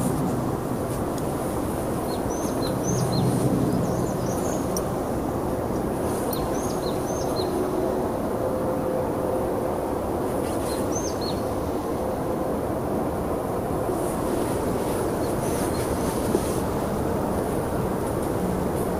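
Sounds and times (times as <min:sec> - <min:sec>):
rushing background noise: 0:00.0 - 0:18.9.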